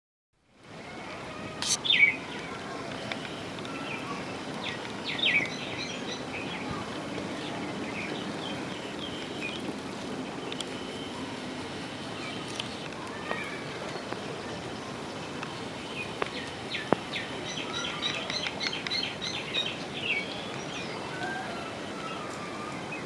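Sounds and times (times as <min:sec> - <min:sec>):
outdoor background noise: 0:00.4 - 0:23.0
birds chirping: 0:01.6 - 0:23.0.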